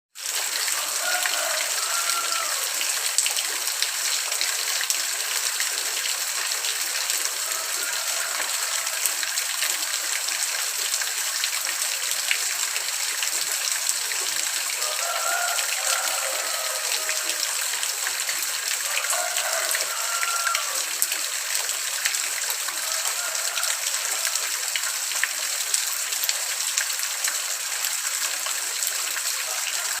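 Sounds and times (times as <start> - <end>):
rain falling: 0.2 - 30.0.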